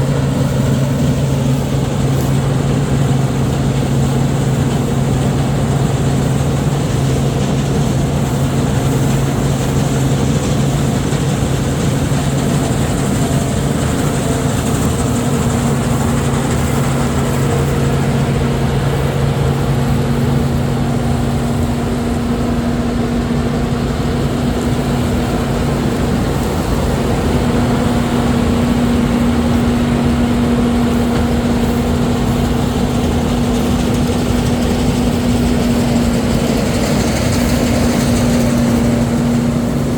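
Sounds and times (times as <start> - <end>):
diesel machinery running: 0.0 - 39.9
low engine hum: 0.0 - 39.9.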